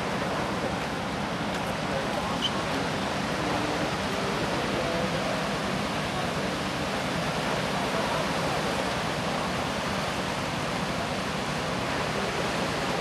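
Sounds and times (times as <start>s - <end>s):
boat rushing through water: 0.0s - 13.0s.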